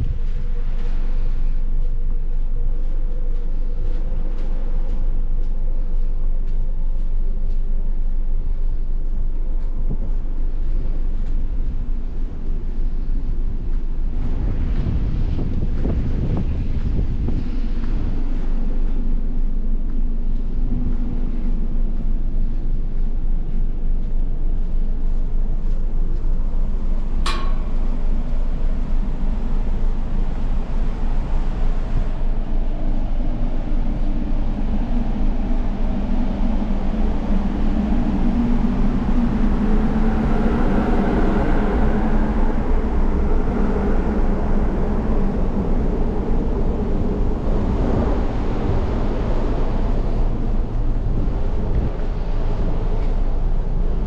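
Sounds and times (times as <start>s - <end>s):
ship machinery rumble and hum: 0.0s - 54.0s
wind buffeting microphone: 0.0s - 54.0s.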